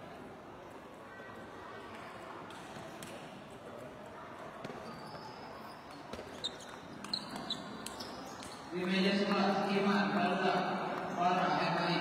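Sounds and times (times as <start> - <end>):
murmur of sports hall: 0.0 - 12.0.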